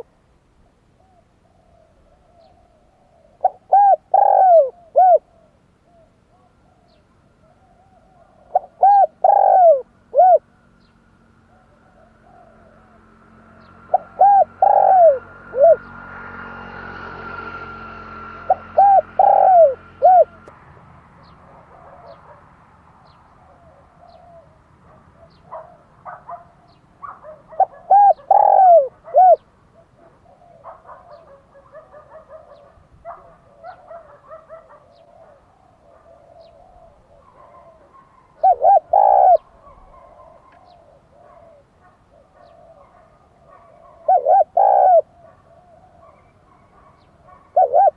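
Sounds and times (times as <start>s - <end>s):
dove cooing: 0.0s - 20.6s, 21.2s - 47.9s.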